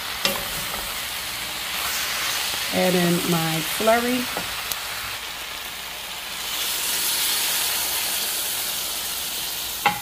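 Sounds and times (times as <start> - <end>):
slurry sizzling in hot wok: 0.0 - 10.0.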